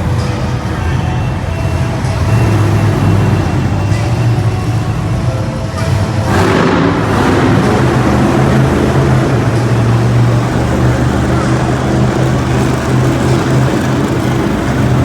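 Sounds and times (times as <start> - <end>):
arena music: 0.0 - 15.0
truck engine running hard: 0.0 - 15.0.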